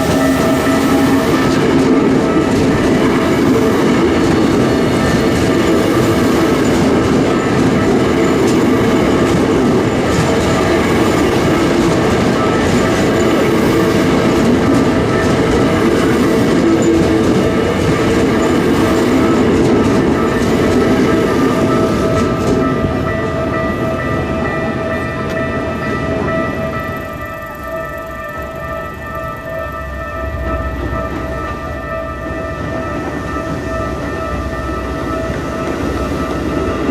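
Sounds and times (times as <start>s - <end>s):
steady tones: 0.0s - 36.9s
train wheels clacking over rails: 0.0s - 36.9s.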